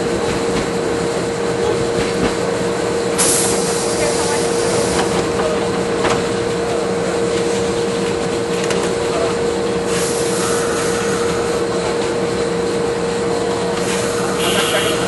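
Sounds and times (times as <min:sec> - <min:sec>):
electric train humming: 0:00.0 - 0:15.0
station noise: 0:00.0 - 0:15.0.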